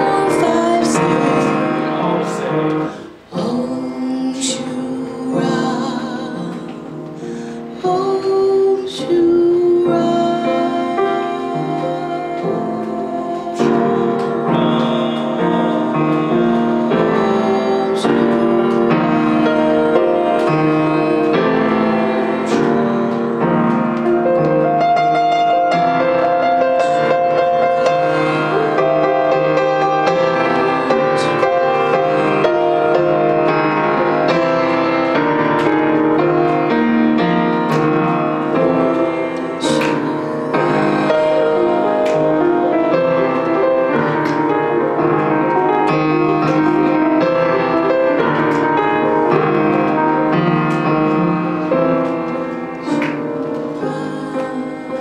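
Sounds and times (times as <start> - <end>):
grand piano playing jazz: 0.0 - 55.0.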